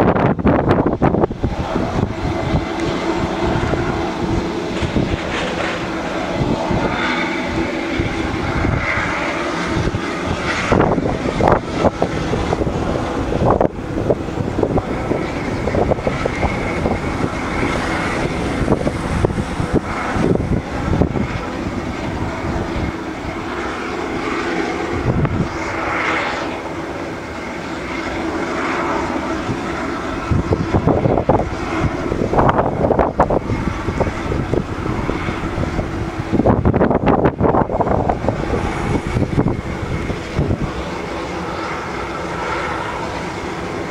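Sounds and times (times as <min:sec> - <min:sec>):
aircraft turbine whine: 0:00.0 - 0:43.9.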